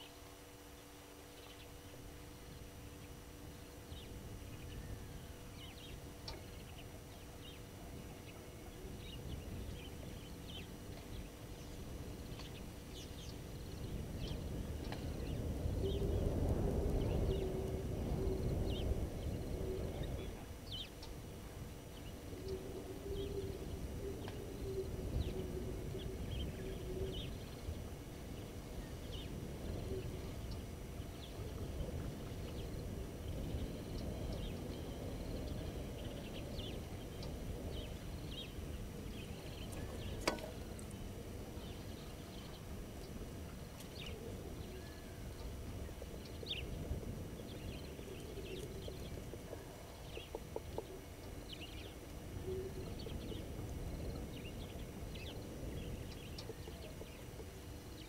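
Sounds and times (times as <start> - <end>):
birds chirping: 0.0 - 58.0
faint wavering hum: 0.0 - 58.0
low rumbling background noise: 0.0 - 58.0.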